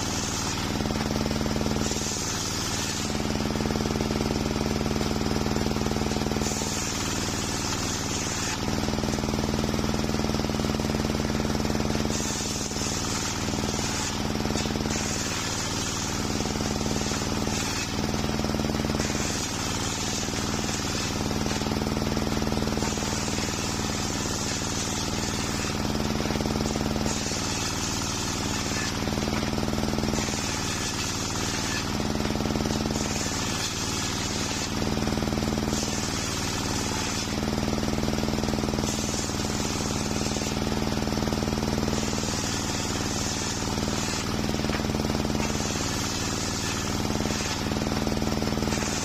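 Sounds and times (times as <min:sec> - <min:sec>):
circular saw ripping wood: 0:00.0 - 0:49.0
saw drive hum: 0:00.0 - 0:49.0.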